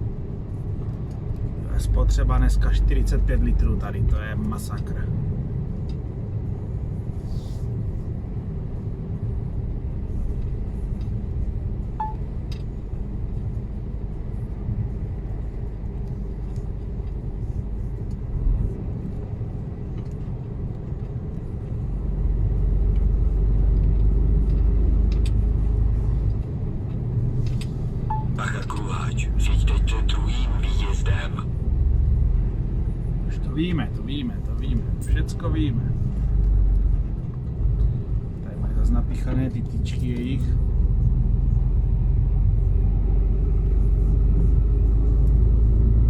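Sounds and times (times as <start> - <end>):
truck engine and road rumble: 0.0 - 46.0.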